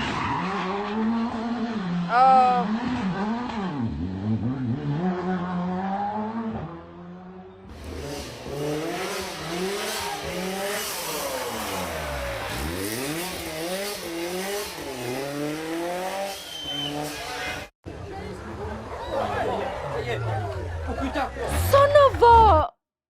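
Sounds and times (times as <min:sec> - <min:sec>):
rally car engines revving: 0:00.0 - 0:22.6.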